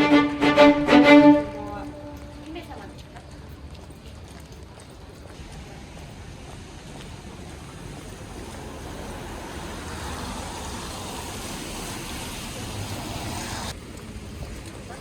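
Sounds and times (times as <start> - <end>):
traffic rushing with low rumble: 0.0 - 3.7, 4.6 - 15.0.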